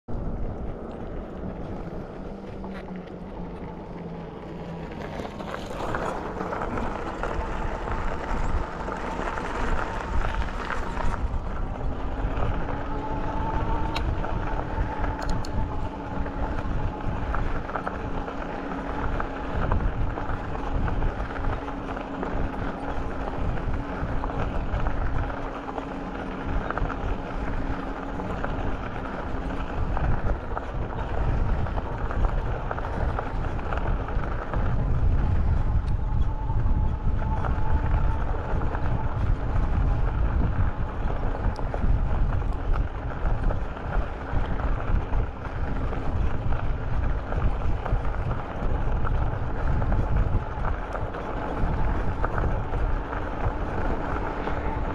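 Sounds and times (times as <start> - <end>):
bicycle tyre and road noise: 0.0 - 54.9
faint steady hum: 0.1 - 54.9
wind buffeting microphone: 0.1 - 54.9.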